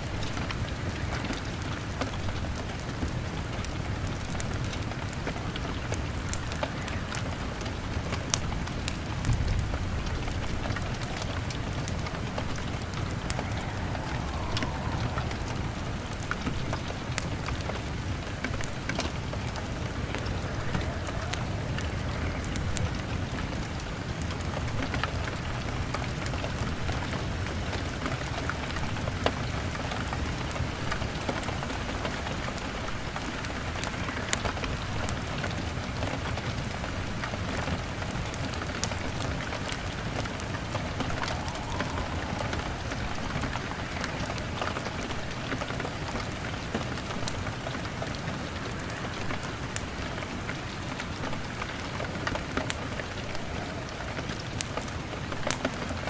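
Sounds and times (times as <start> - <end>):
fire crackling: 0.0 - 56.0
rain on a window: 0.0 - 56.0.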